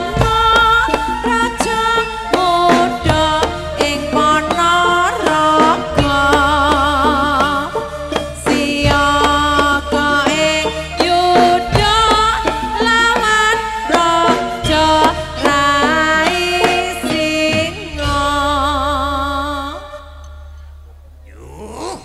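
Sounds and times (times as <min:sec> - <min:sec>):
dance ensemble music: 0:00.0 - 0:20.1.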